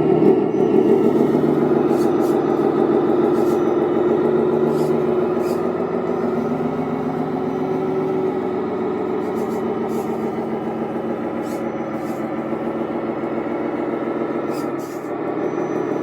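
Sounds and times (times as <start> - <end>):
model truck engine running: 0.0 - 16.0.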